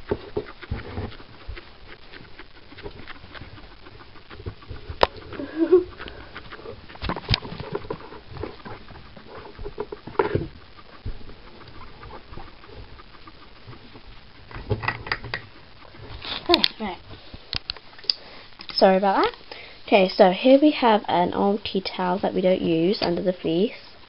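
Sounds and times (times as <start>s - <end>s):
guinea pigs rustling in hay: 0.0s - 24.0s.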